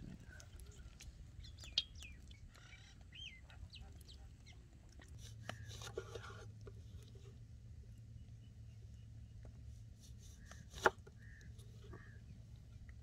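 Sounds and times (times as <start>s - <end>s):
faint bird chirping: 0.1s - 5.8s, 7.7s - 12.9s.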